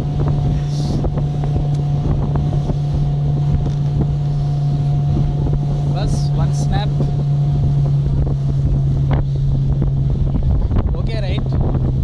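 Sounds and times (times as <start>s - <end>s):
rushing water: 0.0s - 12.0s
speedboat engine droning: 0.0s - 12.0s
wind buffeting microphone: 0.0s - 12.0s.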